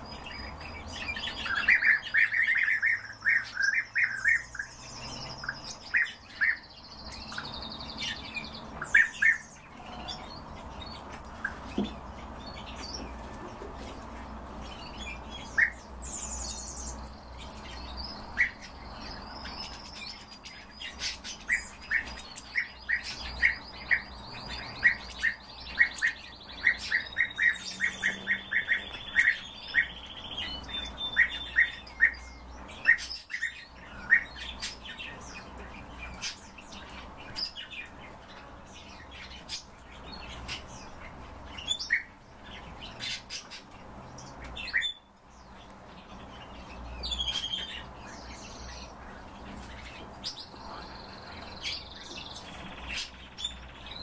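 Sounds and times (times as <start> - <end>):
goldfinches chirping: 0.0 - 54.0.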